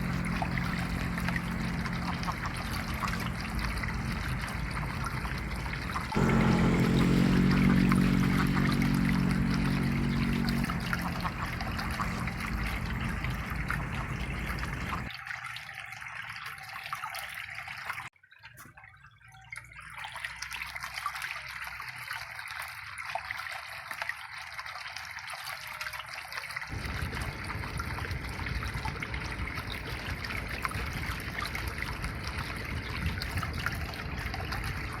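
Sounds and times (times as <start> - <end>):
water trickling: 0.0 - 35.0.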